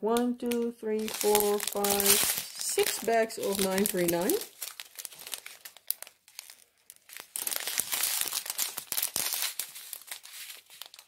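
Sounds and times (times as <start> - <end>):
plastic bags crinkling: 0.4 - 11.0.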